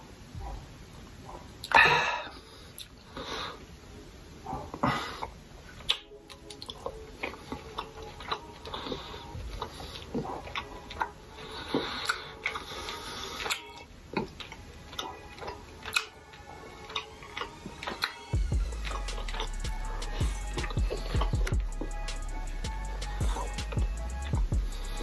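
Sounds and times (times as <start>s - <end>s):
chewing and mouth noises: 2.4s - 3.0s, 4.5s - 25.0s.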